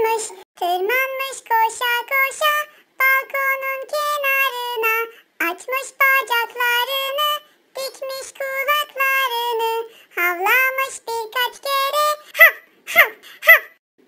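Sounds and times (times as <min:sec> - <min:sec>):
high synthetic voice singing: 0:00.0 - 0:13.7.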